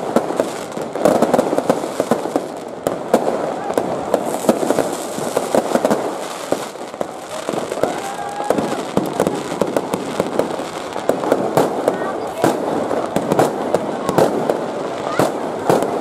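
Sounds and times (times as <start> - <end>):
crackling hiss: 0.0 - 16.0
fireworks cracking and popping: 0.0 - 16.0.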